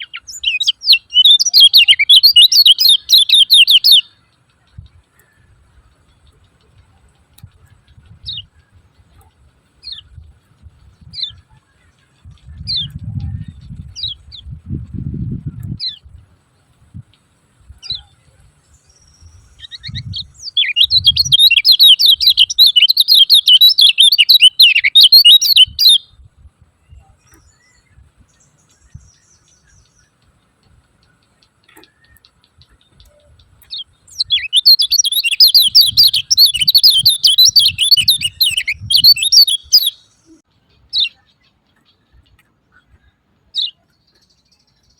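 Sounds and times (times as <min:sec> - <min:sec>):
bird rapid chattering: 0:00.0 - 0:14.6, 0:19.0 - 0:26.0, 0:27.2 - 0:44.9.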